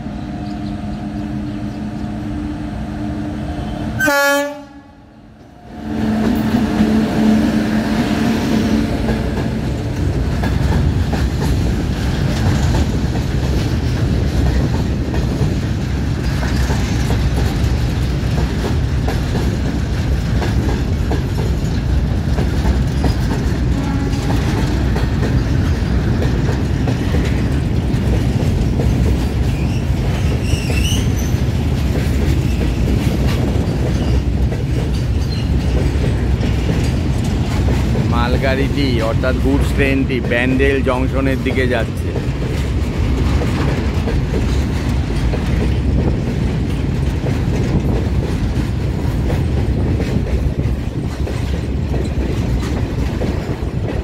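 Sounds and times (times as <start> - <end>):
electric locomotive hum: 0.0 - 54.0
wheels clacking over rail joints: 6.1 - 54.0.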